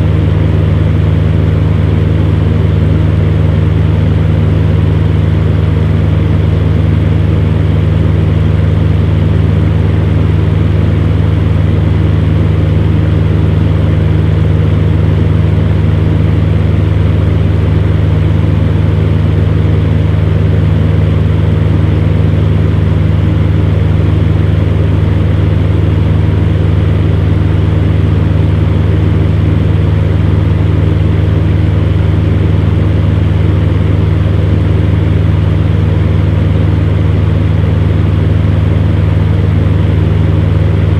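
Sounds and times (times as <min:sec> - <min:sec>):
fan heater motor hum: 0:00.0 - 0:40.9.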